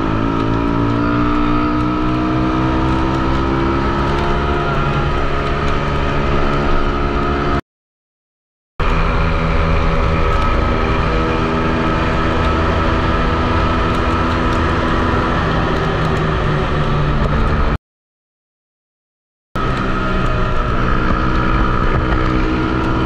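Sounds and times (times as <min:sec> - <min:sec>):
minibike engine at high revs: 0:00.0 - 0:07.6, 0:08.8 - 0:17.8, 0:19.6 - 0:23.0.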